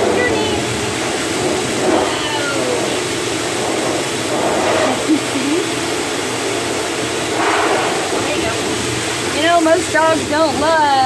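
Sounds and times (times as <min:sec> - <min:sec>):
grooming dryer blowing air: 0:00.0 - 0:11.0.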